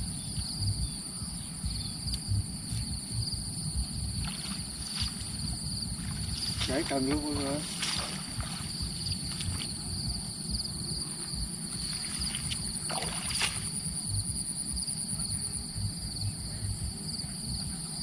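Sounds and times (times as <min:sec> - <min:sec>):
insects trilling: 0:00.0 - 0:18.0
low rumble: 0:00.0 - 0:18.0.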